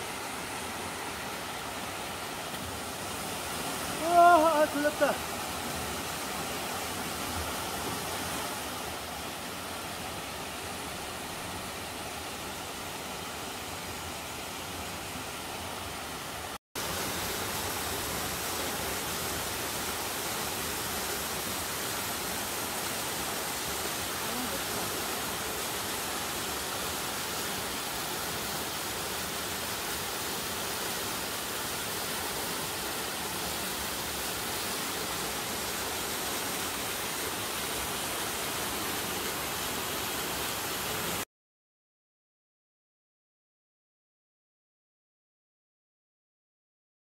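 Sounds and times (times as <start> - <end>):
waterfall rushing: 0.0 - 41.2.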